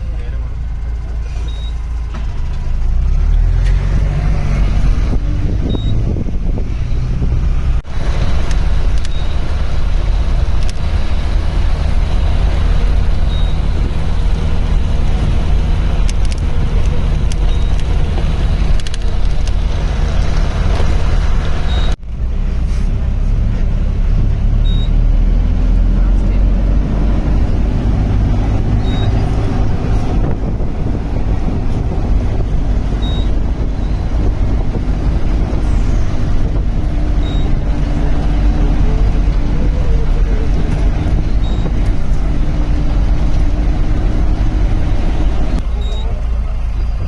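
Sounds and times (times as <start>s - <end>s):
vehicle engine rumbling: 0.0s - 47.0s.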